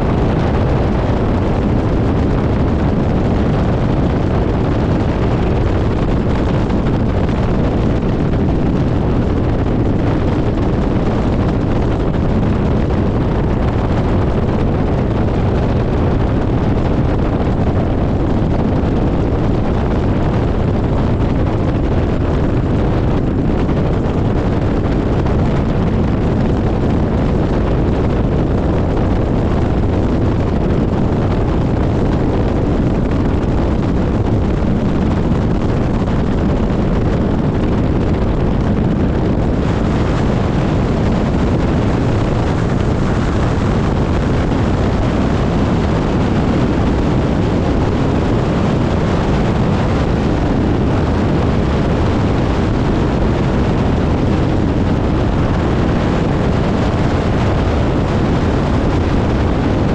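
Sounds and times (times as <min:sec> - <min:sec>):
plane engine and propeller: 0:00.0 - 0:59.9
wind rushing over microphone: 0:00.0 - 0:59.9.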